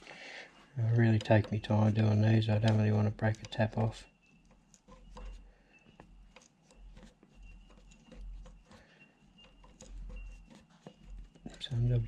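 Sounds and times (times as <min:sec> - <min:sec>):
tap cutting threads: 0:01.2 - 0:11.5.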